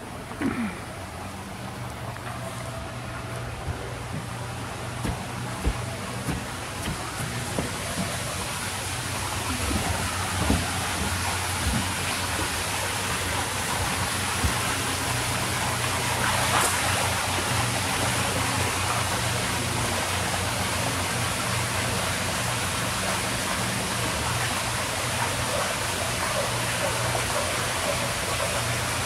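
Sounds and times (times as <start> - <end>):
running water in a pond: 0.0 - 29.0.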